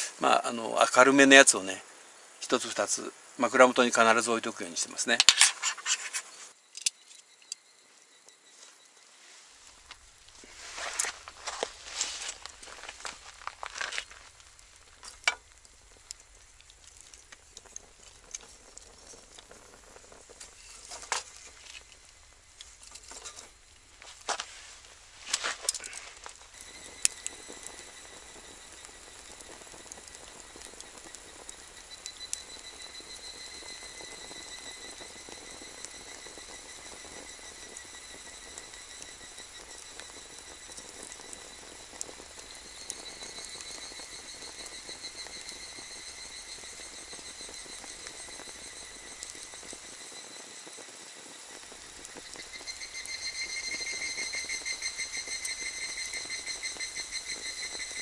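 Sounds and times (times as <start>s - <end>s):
fire popping: 0.0s - 58.0s
insects trilling: 0.0s - 58.0s
wood fire crackling: 0.0s - 58.0s.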